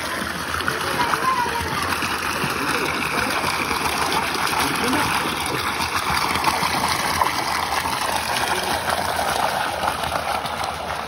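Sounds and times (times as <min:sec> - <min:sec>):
running splashing water: 0:00.0 - 0:11.0.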